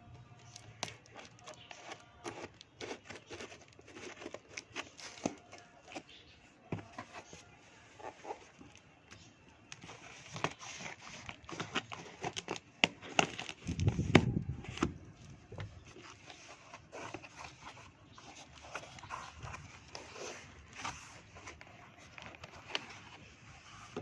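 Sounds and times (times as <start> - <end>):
cardboard and plastic rustling: 0.4 - 24.0.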